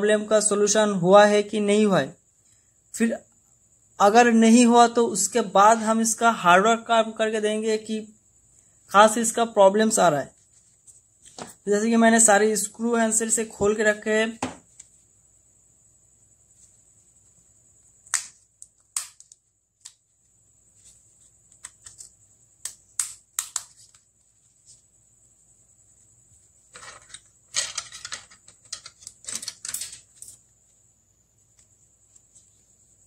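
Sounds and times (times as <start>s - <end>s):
faint high-pitched whine: 0.0s - 33.0s.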